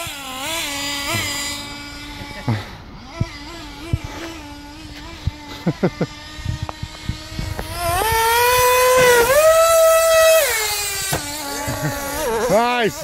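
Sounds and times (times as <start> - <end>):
small model engine revving: 0.0 - 13.0.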